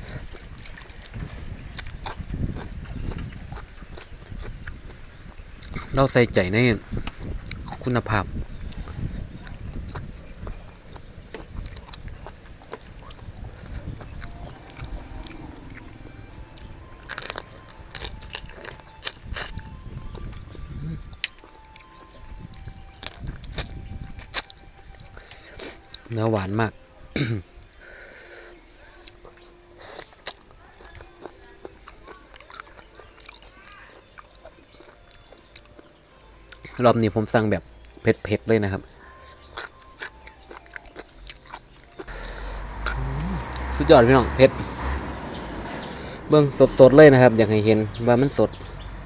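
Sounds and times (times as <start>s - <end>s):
biting and chewing: 0.0s - 48.8s.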